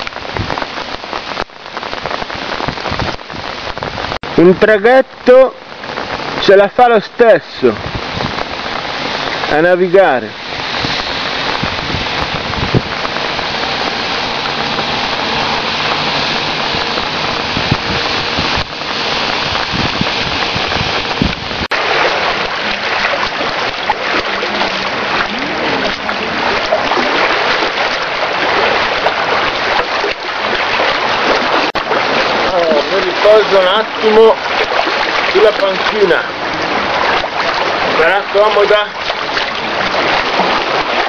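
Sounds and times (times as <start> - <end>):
heavy rain hissing: 0.0 - 41.0
water splashing over pavement: 0.0 - 41.0.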